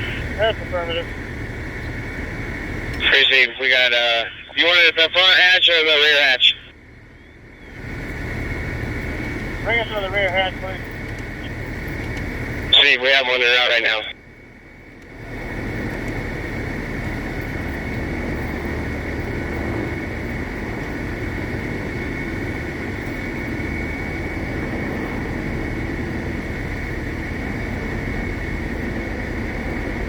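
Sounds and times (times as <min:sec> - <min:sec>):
engine drone with high whine: 0:00.0 - 0:30.0.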